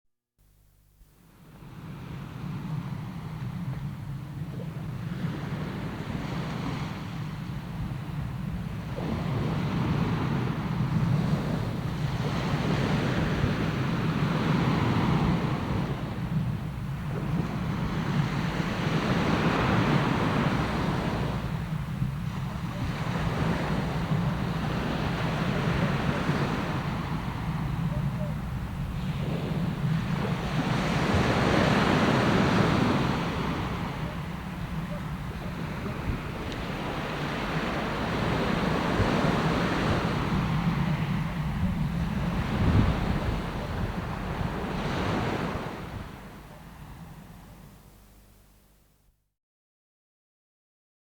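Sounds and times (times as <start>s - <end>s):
sea surf breaking on shore: 1.4s - 48.4s.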